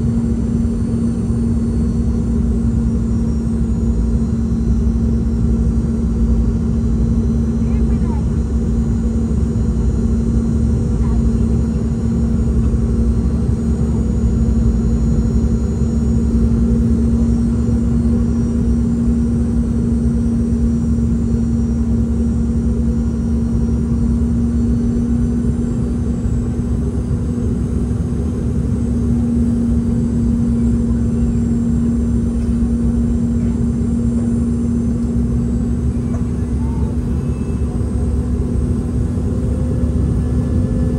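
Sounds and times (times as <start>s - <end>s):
jet engine cabin rumble: 0.0s - 40.9s
steady low hum: 0.0s - 40.9s.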